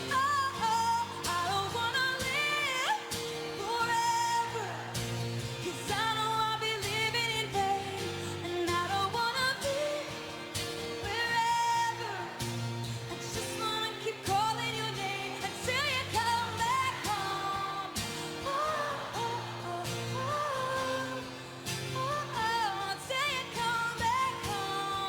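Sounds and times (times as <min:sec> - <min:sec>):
woman singing: 0:00.0 - 0:25.0.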